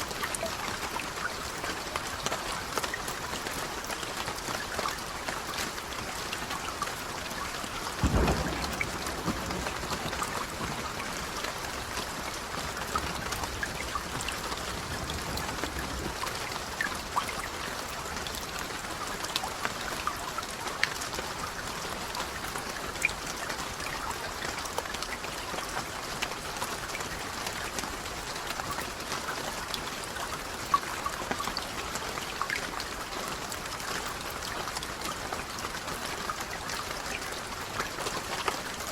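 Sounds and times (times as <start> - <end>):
raindrops ticking on a surface: 0.0 - 38.9.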